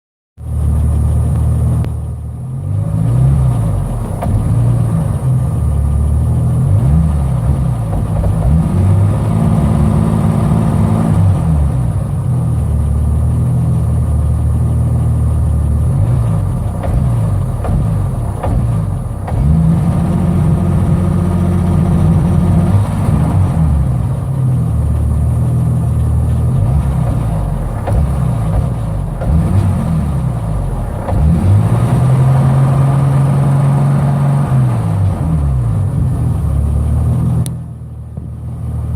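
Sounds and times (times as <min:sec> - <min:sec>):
engine revving and misfiring: 0:00.4 - 0:38.9.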